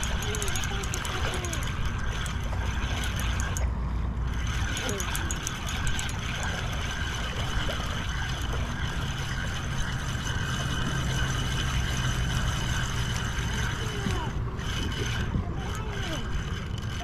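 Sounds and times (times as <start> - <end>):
spinning reel cranking: 0.0 - 17.0.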